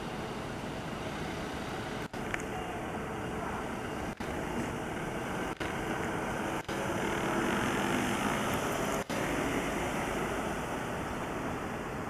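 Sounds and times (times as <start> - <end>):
city traffic noise: 0.0 - 12.0
van engine running: 0.0 - 12.0.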